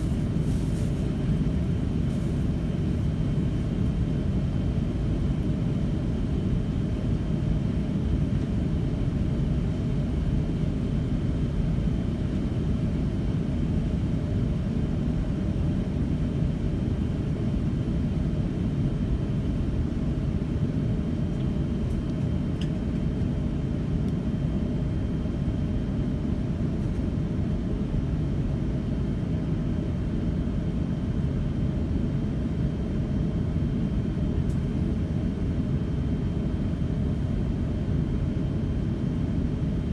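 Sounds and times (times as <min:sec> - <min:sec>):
airliner cabin low rumble: 0:00.0 - 0:39.9.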